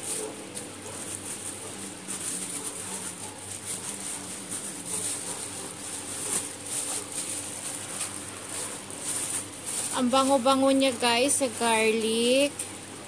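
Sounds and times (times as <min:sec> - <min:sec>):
plastic bag rustling and crinkling: 0:00.0 - 0:12.7.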